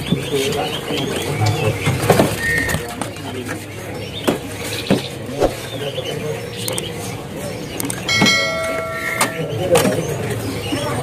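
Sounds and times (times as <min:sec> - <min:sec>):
distant voices: 0:00.0 - 0:11.0.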